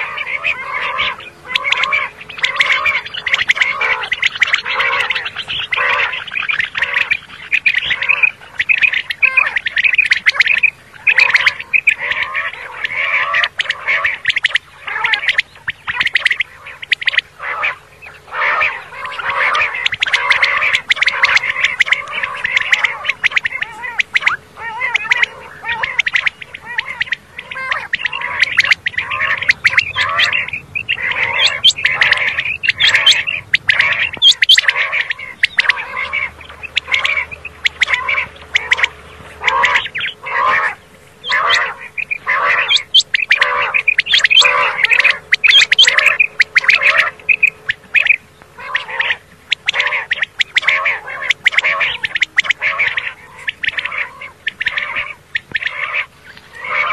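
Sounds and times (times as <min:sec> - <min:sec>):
quail calling: 0:00.0 - 0:56.9.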